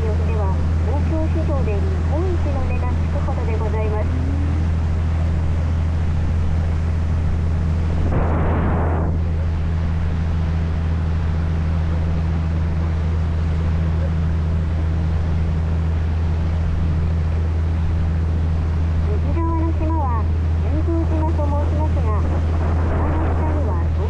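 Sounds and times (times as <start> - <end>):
boat engine droning: 0.0 - 24.0
wind and water rushing: 1.8 - 19.2, 21.3 - 24.0.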